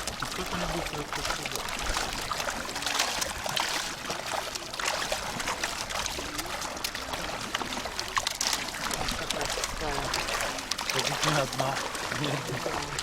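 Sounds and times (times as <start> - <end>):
seawater lapping and trickling: 0.0 - 13.0
small crackling splashes: 0.0 - 13.0.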